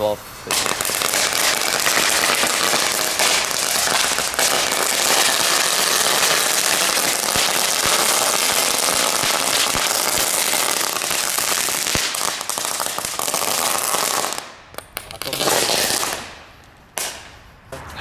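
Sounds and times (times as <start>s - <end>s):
firework crackling and fizzing: 0.0s - 17.3s.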